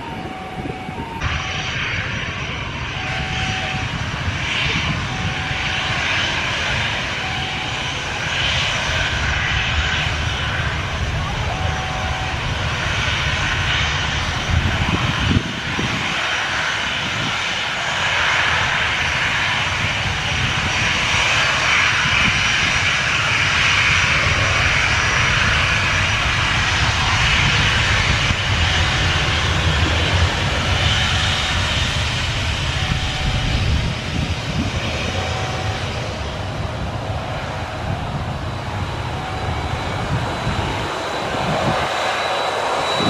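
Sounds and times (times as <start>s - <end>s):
jet engines whining at taxi power: 0.0s - 43.0s.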